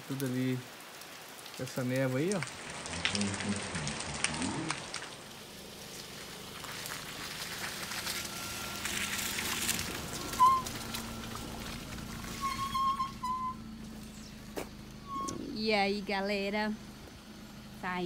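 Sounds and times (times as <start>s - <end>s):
rain falling on vegetation: 0.0s - 15.2s, 16.0s - 18.0s
car engine idling: 1.6s - 18.0s.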